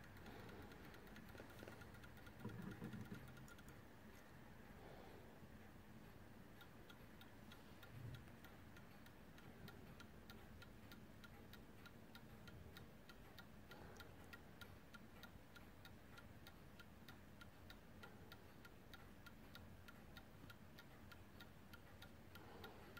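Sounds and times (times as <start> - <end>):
clock ticking: 0.0 - 3.8, 5.6 - 22.9.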